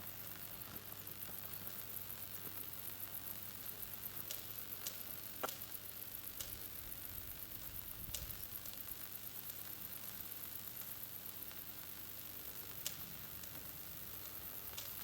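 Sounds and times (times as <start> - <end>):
power line corona crackling: 0.0 - 15.0.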